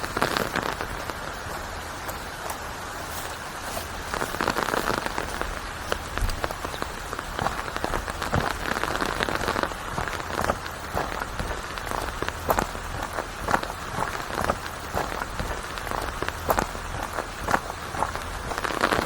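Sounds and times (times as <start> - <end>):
rain falling: 0.0 - 19.0
raindrops striking a surface: 0.0 - 19.0.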